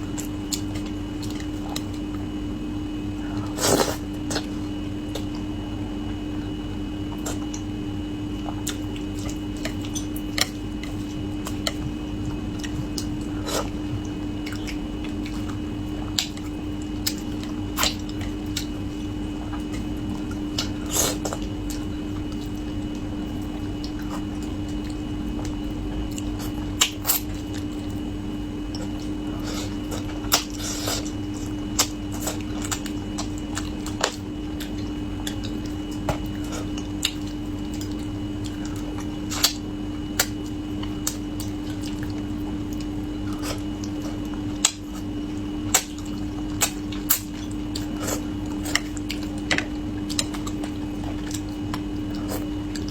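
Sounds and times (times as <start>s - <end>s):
low hum: 0.0s - 47.8s
wet chewing: 0.1s - 2.3s, 8.3s - 52.9s.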